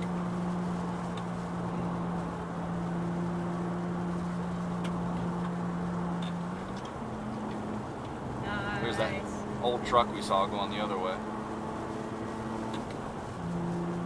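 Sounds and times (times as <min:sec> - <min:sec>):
car engine humming: 0:00.0 - 0:14.0
road and tyre noise: 0:00.0 - 0:14.0.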